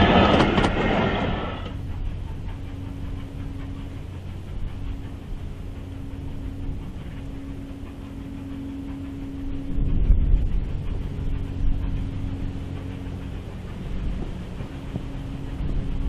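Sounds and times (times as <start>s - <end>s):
steam locomotive approaching: 0.0s - 16.0s.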